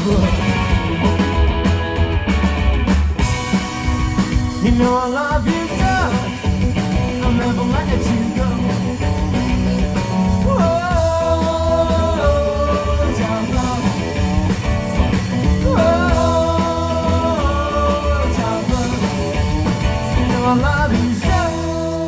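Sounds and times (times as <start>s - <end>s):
rockabilly band playing live: 0.0s - 22.0s.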